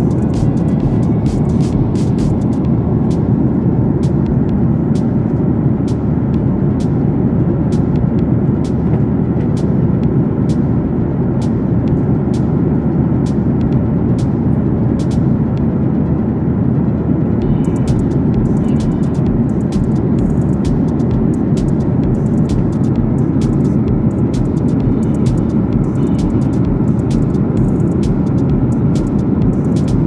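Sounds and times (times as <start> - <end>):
jet airliner cabin roar: 0.0 - 30.0.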